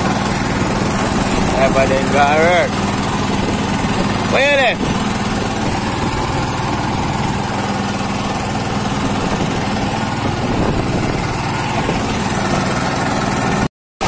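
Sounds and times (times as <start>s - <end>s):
small petrol engine running: 0.0s - 13.7s.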